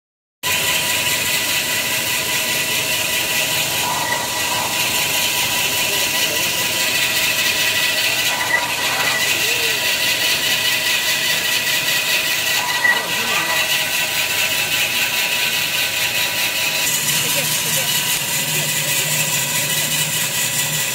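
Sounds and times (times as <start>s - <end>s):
band saw machine whine: 0.5s - 20.9s.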